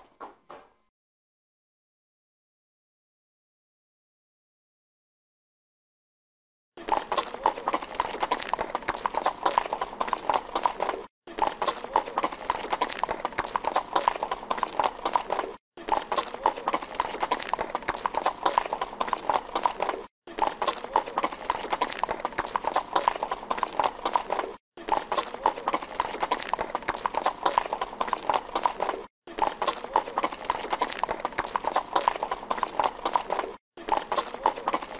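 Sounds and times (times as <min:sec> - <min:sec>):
horse hooves galloping: 0:06.8 - 0:34.9.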